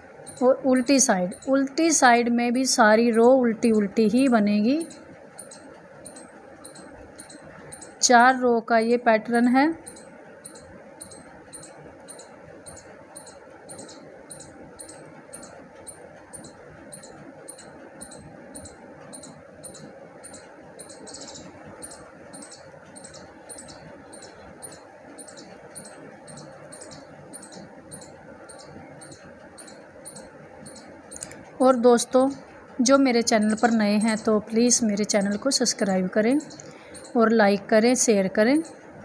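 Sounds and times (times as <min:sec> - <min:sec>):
metal knitting needles clicking: 0:00.2 - 0:08.4, 0:09.3 - 0:38.8.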